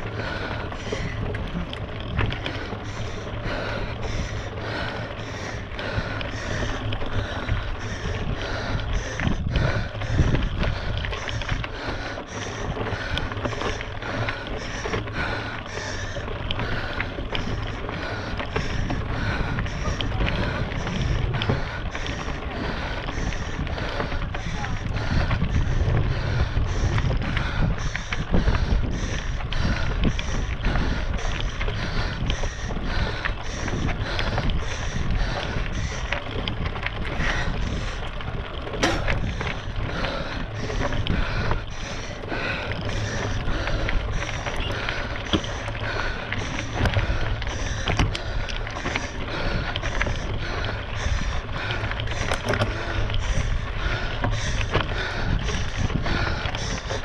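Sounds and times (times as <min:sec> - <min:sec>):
runner footsteps on trail: 0:00.0 - 0:57.0
wind rumbling on microphone: 0:00.0 - 0:57.0.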